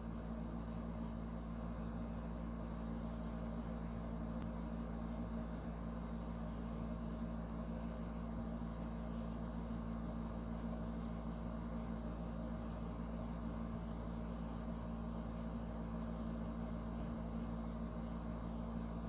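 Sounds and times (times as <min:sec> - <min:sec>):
low machine hum with hiss: 0:00.0 - 0:19.0.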